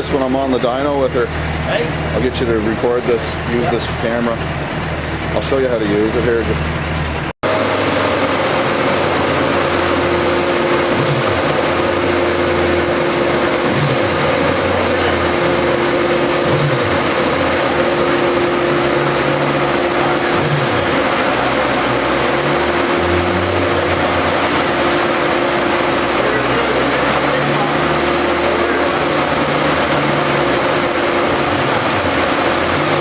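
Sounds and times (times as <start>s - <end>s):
motorcycle engine running steadily: 0.0s - 33.0s.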